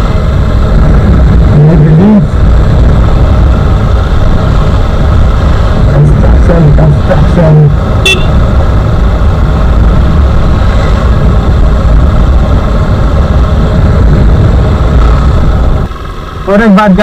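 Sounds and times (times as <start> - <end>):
motorcycle engine running: 0.0 - 17.0
wind rumble: 0.0 - 17.0.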